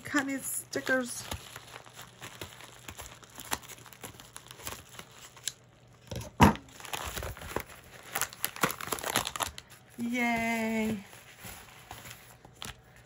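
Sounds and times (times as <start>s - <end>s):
plastic mailer crinkling: 0.1s - 5.7s, 6.7s - 13.0s.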